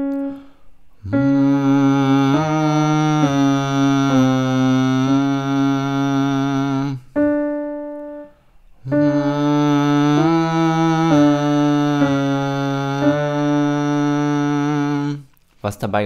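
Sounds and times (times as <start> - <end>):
man humming: 0.0 - 7.2, 8.8 - 15.3
keyboard note: 0.0 - 15.2.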